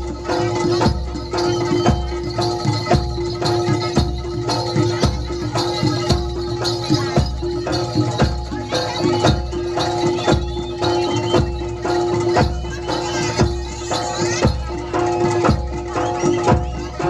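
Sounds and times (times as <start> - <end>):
heavy drum beats: 0.0 - 17.0
jingling and mallet percussion: 0.0 - 17.0.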